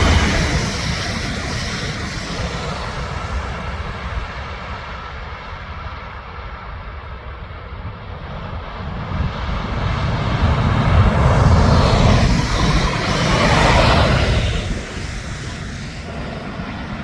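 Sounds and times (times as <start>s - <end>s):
train rumbling and rushing: 0.0s - 17.0s.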